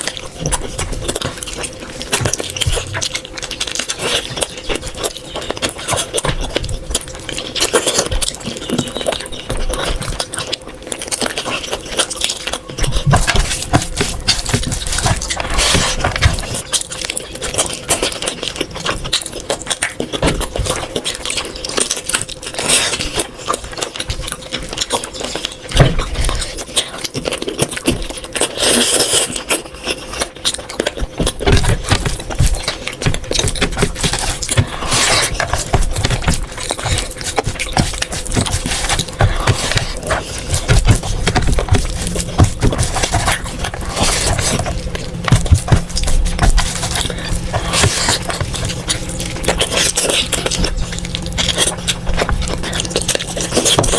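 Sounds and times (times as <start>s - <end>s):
chewing and mouth clicks: 0.0s - 53.9s.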